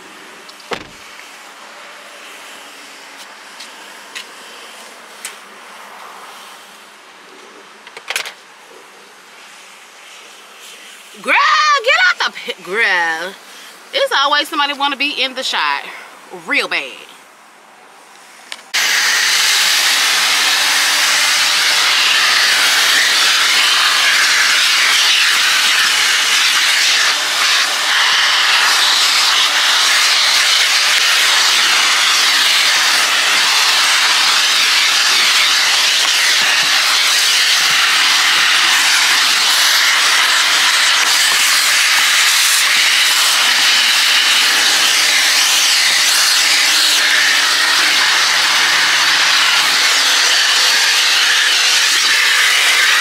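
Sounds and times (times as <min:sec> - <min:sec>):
car wash equipment hissing: 0:00.0 - 0:07.8, 0:18.0 - 0:53.0.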